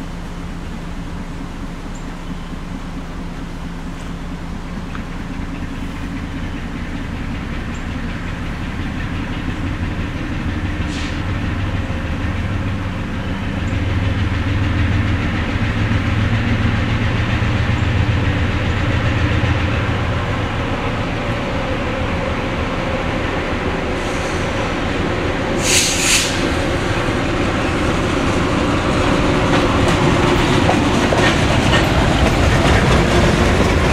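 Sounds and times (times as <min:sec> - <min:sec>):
diesel locomotive engine drone: 0:00.0 - 0:33.9.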